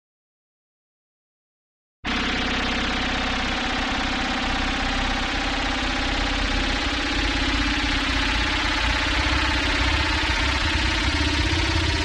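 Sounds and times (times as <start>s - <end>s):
synthesized drone: 2.1s - 12.0s.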